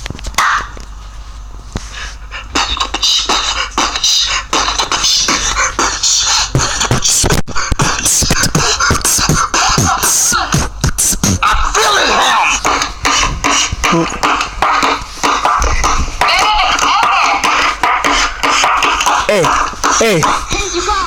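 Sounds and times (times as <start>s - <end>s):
toy robot playing beatbox beat: 2.4s - 20.6s.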